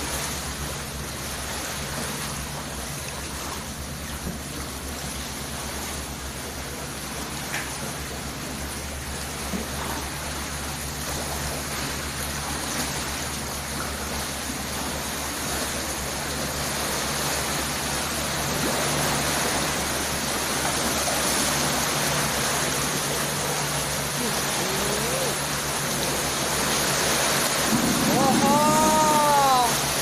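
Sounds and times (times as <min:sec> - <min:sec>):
low steady hum: 0:00.0 - 0:30.0
river water sloshing and rushing: 0:00.0 - 0:30.0
wake waves surging against house: 0:00.0 - 0:30.0.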